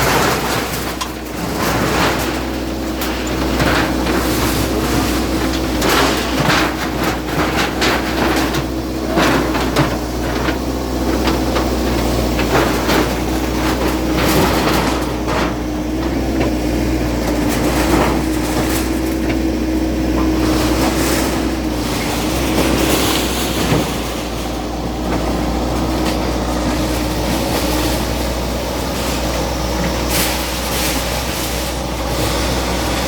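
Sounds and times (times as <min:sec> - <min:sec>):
bulldozer diesel engine rumbling: 0:00.0 - 0:33.0
clanks and crashes of demolition: 0:00.0 - 0:33.0.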